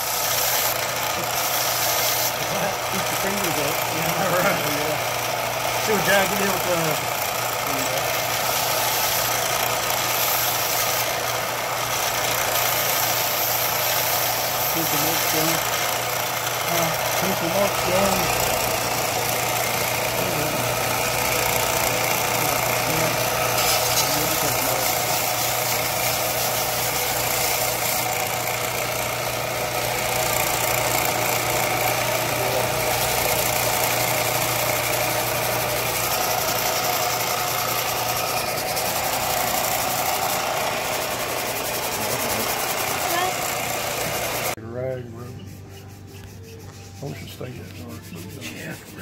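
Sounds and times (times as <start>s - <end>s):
electric sander grinding knife: 0.0s - 44.6s, 45.2s - 49.0s.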